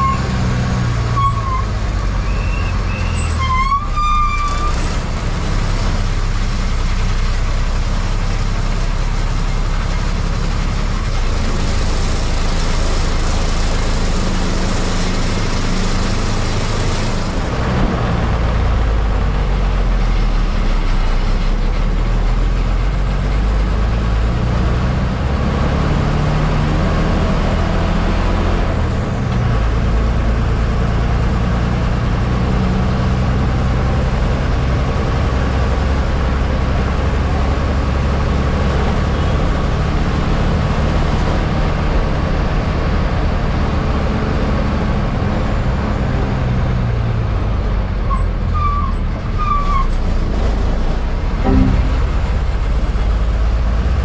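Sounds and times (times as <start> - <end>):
bus engine running: 0.0 - 54.0
road noise: 0.0 - 54.0.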